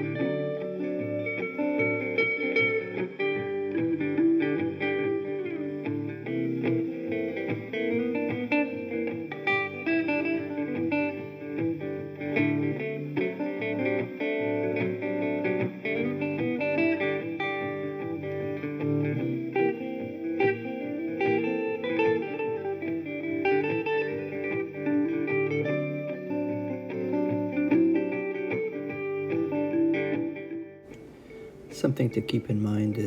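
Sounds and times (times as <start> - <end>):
guitar music with steady beat: 0.0 - 33.0.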